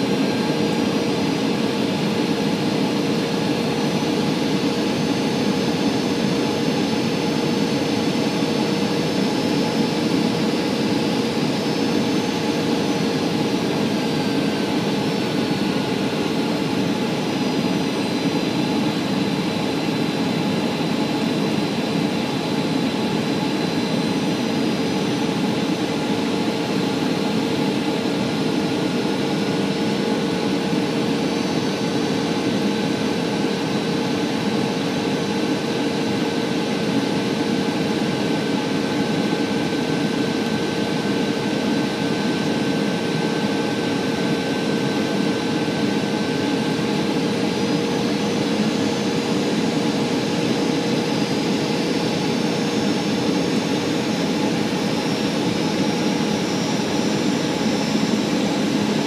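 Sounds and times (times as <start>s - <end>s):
jet engine drone: 0.0s - 59.0s.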